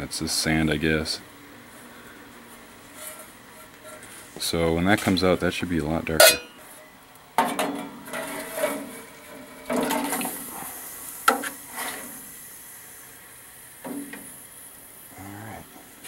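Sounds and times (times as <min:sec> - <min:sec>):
burner hissing: 0:00.0 - 0:07.2, 0:07.8 - 0:16.0.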